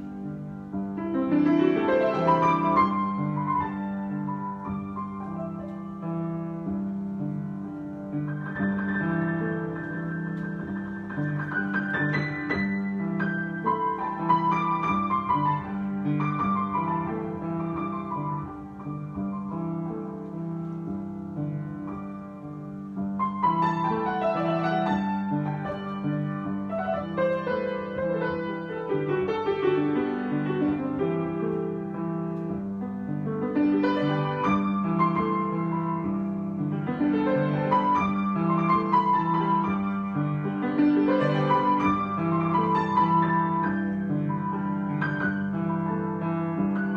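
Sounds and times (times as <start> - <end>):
solo piano: 0.0 - 46.9.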